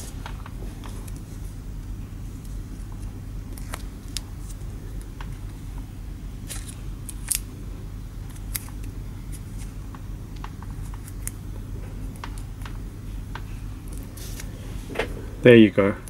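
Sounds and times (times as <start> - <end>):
electrical tape crackling: 0.0 - 16.0
steady low hum: 0.0 - 16.0.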